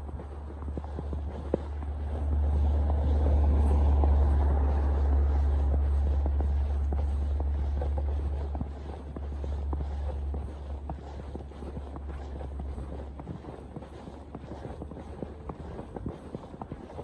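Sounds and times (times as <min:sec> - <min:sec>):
footsteps crunching in snow: 0:00.0 - 0:17.0
low rumble: 0:00.0 - 0:17.0.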